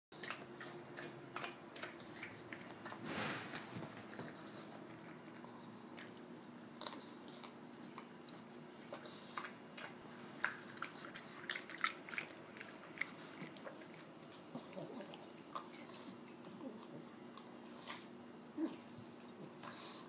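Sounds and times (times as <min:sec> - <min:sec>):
dog chewing watermelon: 0:00.2 - 0:20.0.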